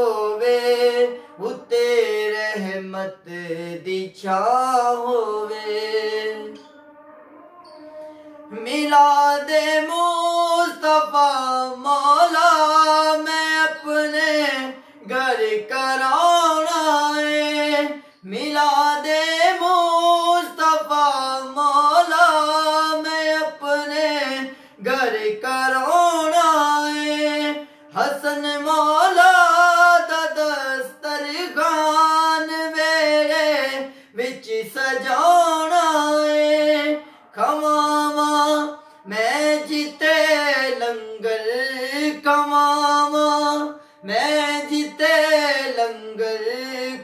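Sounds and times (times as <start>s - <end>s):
man singing solo: 8.5s - 47.0s.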